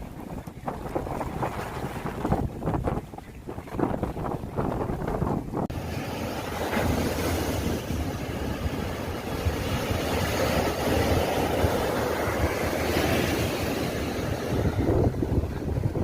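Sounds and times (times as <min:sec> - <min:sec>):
sea waves washing: 0:00.0 - 0:16.0
wind rumbling on microphone: 0:00.0 - 0:16.0.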